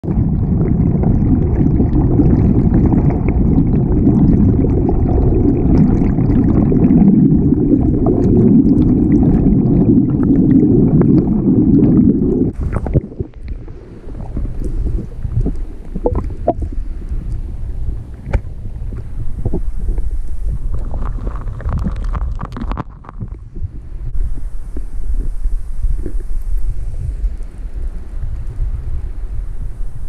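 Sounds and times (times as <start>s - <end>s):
underwater stream rumble: 0.0s - 30.0s.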